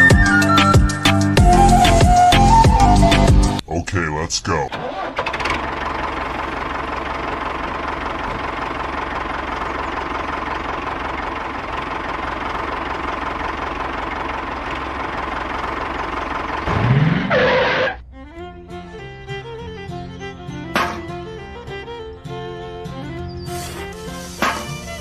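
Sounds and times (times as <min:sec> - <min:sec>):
engine running steadily: 0:05.0 - 0:25.0.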